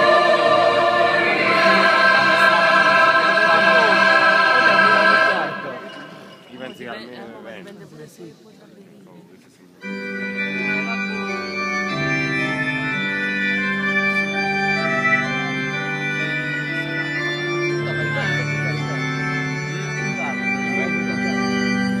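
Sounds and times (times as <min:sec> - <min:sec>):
organ playing held chords: 0:00.0 - 0:06.8, 0:09.8 - 0:22.0.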